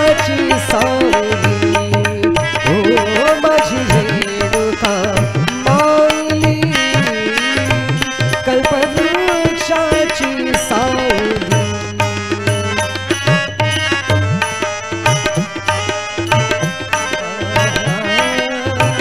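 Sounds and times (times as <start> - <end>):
man singing: 0.0 - 13.9, 16.5 - 19.0
harmonium chords: 0.0 - 19.0
tabla rhythm: 0.0 - 19.0.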